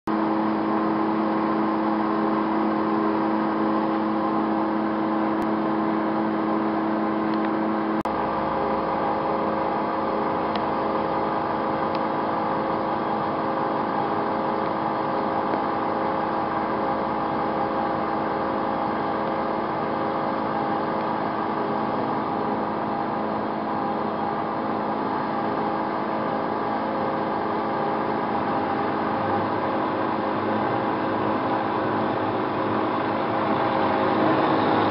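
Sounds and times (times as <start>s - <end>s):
band saw motor humming: 0.1s - 34.9s.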